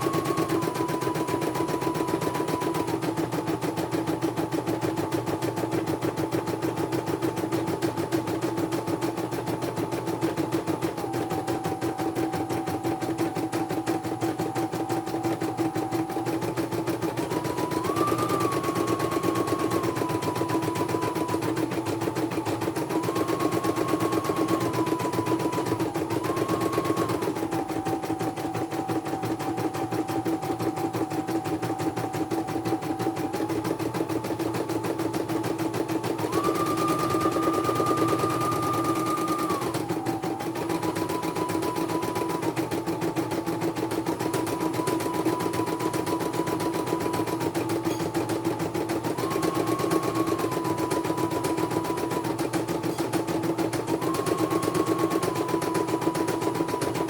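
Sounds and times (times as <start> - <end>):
machine motor whine: 0.0 - 57.0
sewing needle clatter: 0.0 - 57.0.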